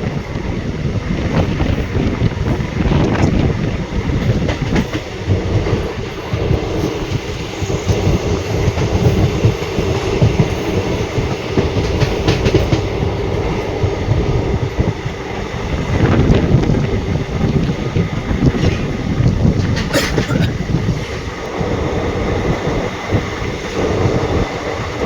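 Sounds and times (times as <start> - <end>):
train rumbling: 0.0 - 25.0
wheels rattling on track: 0.0 - 25.0.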